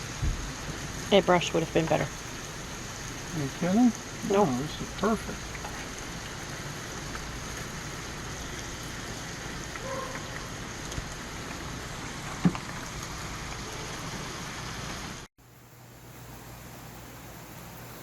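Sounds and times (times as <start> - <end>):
chicken sizzling on a grill: 0.0 - 18.0.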